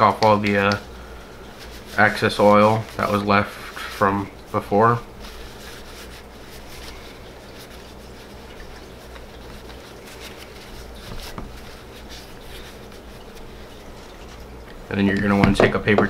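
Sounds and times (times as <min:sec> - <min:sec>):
paper towel rustling: 0:00.0 - 0:16.0
steady low hum: 0:00.0 - 0:16.0.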